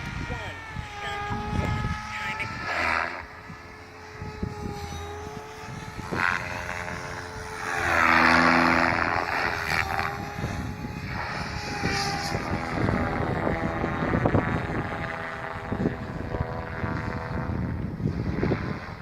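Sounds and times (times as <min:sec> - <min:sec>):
rc helicopter motor whine: 0:00.0 - 0:19.0
rotor rushing hum: 0:00.0 - 0:19.0.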